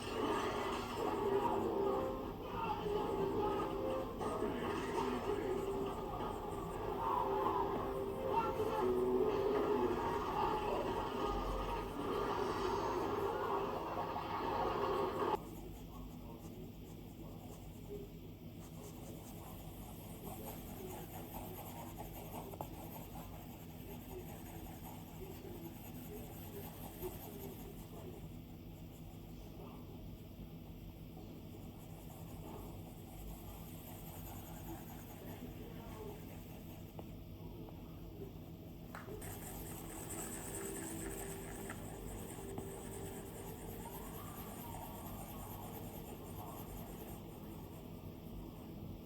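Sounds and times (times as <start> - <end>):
stylus scratching on glass screen: 0.0 - 29.3, 31.6 - 37.2, 39.2 - 48.3
steady low hum: 0.0 - 49.0.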